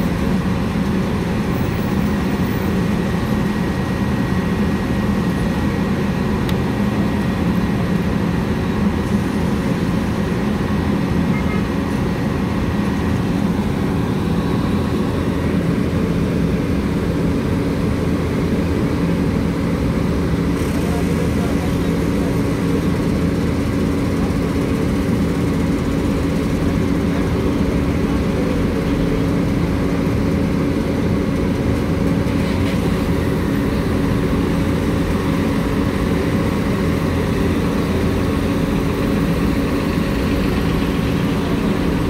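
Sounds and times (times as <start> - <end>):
diesel engine running steadily: 0.0 - 42.0.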